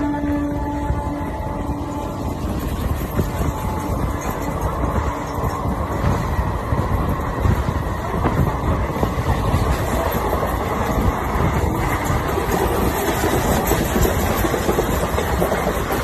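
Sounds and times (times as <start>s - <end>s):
passenger train rumble and clatter: 0.0s - 16.0s
train on next track: 0.0s - 16.0s
wheels clacking over track: 2.0s - 16.0s.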